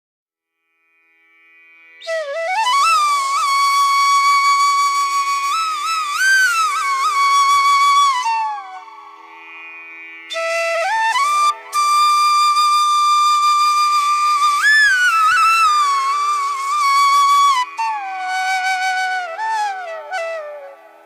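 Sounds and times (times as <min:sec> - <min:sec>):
solo flute melody: 0:02.0 - 0:21.0.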